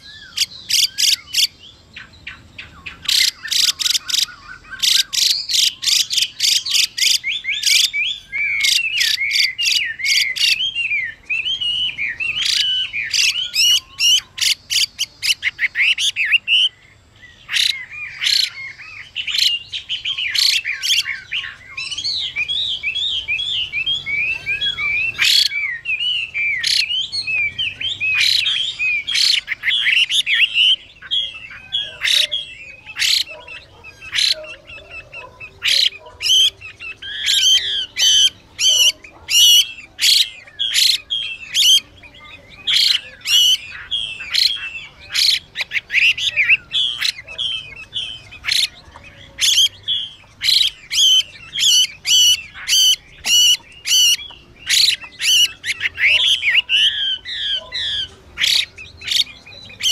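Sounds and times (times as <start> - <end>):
bird singing warbling whistles: 0.0 - 59.9.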